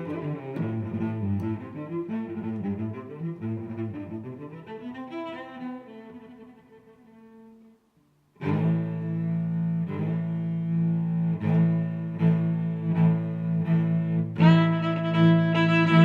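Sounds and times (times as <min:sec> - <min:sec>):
low bowed strings: 0:00.0 - 0:07.6, 0:08.4 - 0:16.0.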